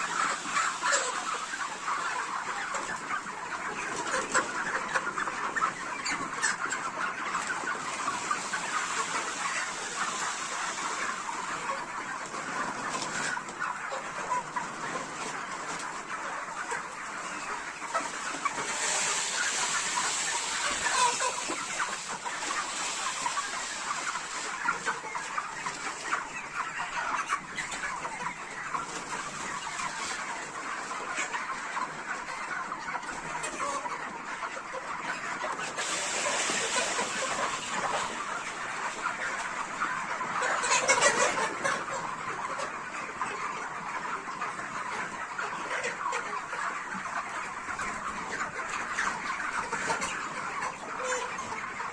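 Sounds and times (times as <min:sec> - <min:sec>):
flock of chickens clucking: 0:00.0 - 0:51.9.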